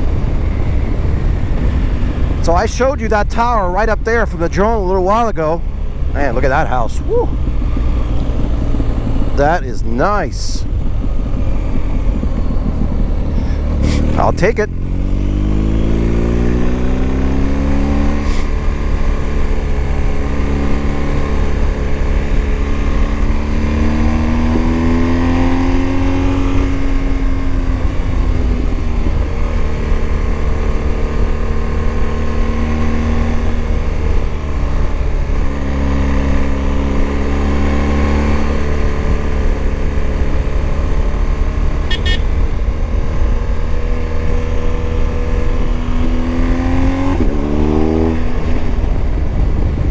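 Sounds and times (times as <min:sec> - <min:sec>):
wind rumble on microphone: 0:00.0 - 0:37.6, 0:38.2 - 0:49.9
motorcycle engine accelerating: 0:00.0 - 0:49.9.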